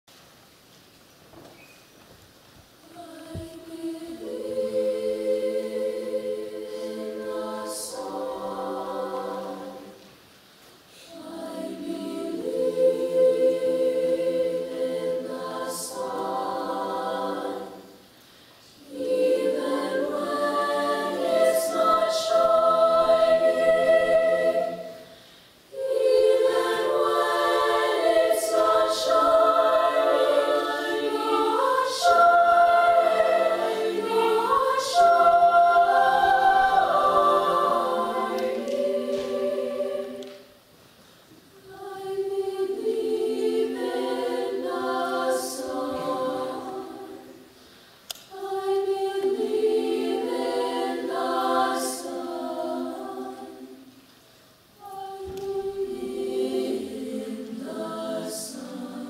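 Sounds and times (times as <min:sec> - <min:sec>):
women's choir singing: 0:02.8 - 0:10.2, 0:10.9 - 0:40.6, 0:41.5 - 0:54.0, 0:54.8 - 0:59.0.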